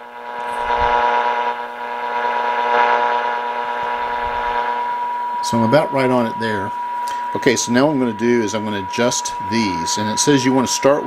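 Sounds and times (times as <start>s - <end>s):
radio test tone: 0.0s - 11.0s
static hiss: 0.0s - 11.0s.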